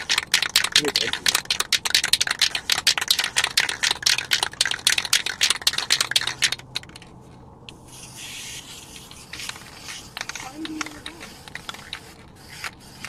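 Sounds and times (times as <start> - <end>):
spray paint hissing: 0.0 - 7.0, 7.7 - 13.0
spray can ball rattling: 0.0 - 7.2, 7.9 - 13.0.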